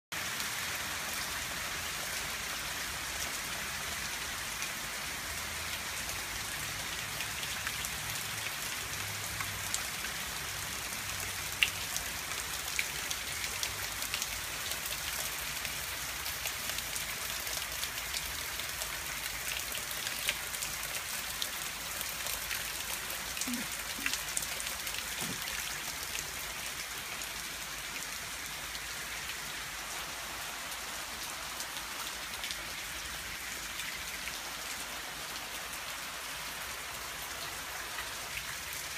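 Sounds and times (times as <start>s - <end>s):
rain on asphalt and plants: 0.1s - 38.9s.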